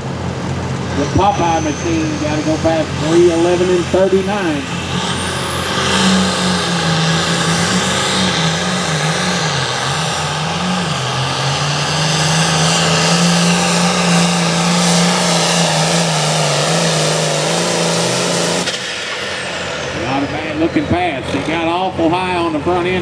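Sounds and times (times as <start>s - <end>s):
tractor engine running under load: 0.0s - 23.0s.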